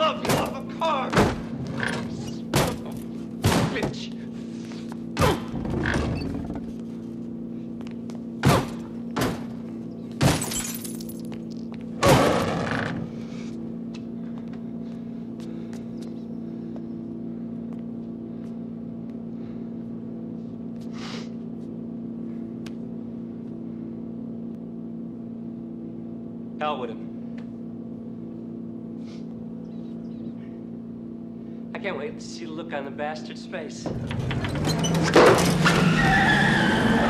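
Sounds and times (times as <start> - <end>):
steady low hum: 0.0 - 35.8.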